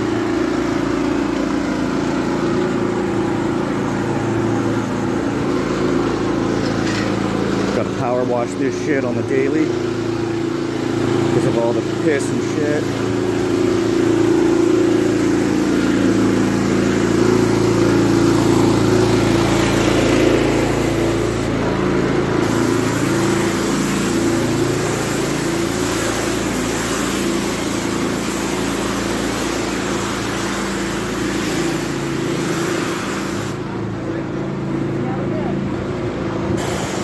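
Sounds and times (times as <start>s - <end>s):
pressure washer engine running: 0.0s - 37.0s.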